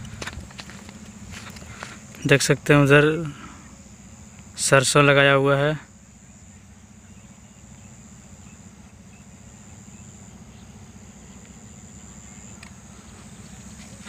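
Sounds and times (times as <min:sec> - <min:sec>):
high-pitched insect trill: 0:00.0 - 0:14.0
low steady hum: 0:00.0 - 0:14.0.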